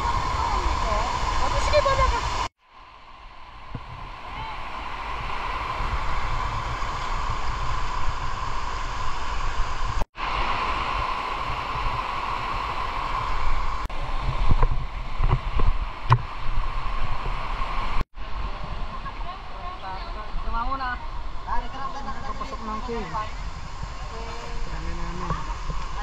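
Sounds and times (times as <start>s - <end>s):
river rushing over rock: 0.0s - 26.0s.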